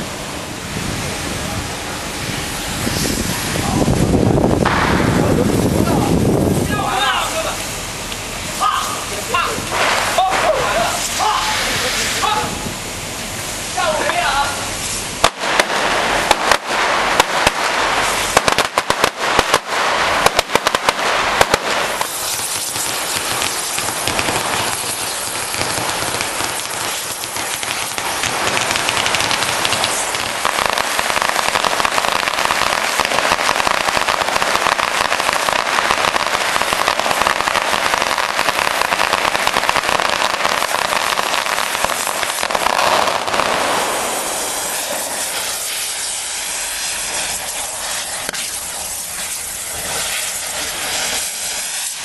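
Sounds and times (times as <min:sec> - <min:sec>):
firecrackers crackling: 0:00.0 - 0:52.0
steady hiss: 0:00.0 - 0:52.0.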